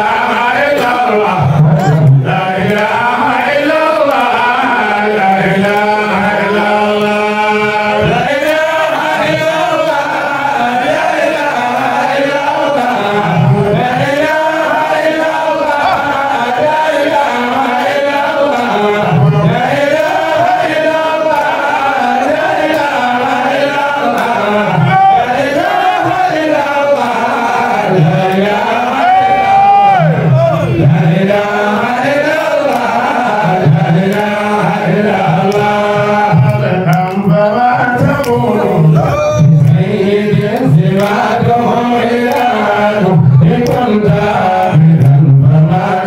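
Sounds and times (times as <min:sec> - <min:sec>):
man chanting into a microphone: 0:00.0 - 0:46.0.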